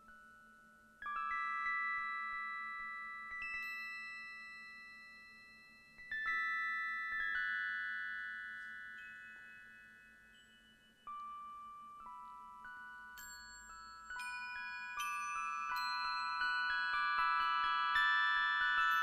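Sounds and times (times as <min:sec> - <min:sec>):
bell-like struck tones: 0:00.0 - 0:19.0.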